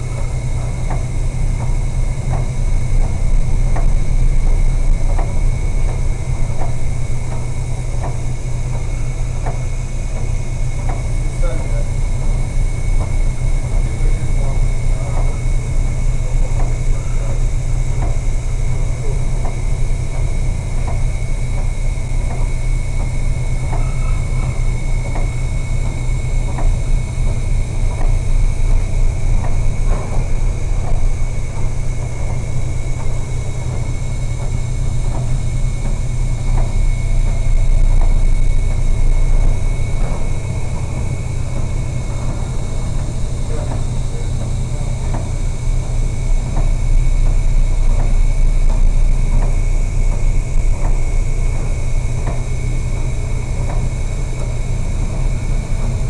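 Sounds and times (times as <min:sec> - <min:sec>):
faint high whine: 0:00.0 - 0:56.0.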